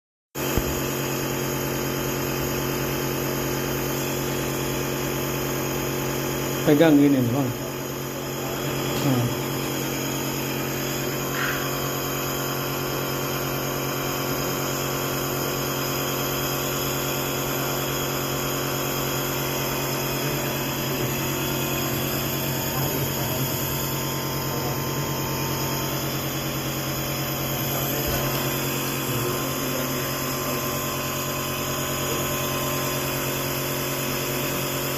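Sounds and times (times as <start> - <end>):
nebulizer compressor humming: 0.4 - 34.9.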